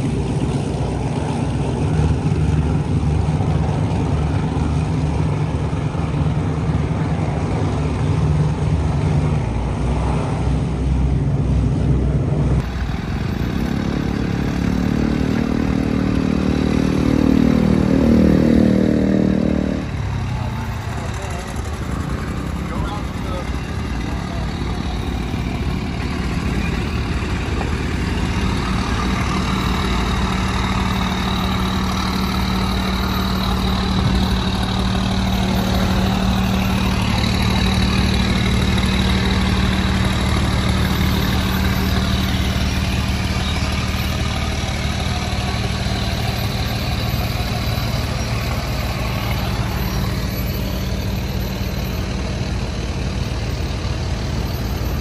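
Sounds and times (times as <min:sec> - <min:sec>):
truck engines droning: 0:00.0 - 0:55.0.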